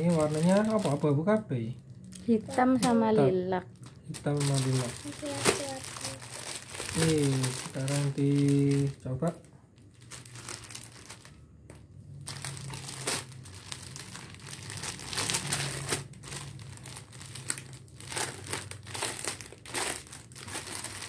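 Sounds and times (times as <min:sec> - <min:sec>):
plastic bags crinkling: 0:00.0 - 0:11.5, 0:12.1 - 0:21.0.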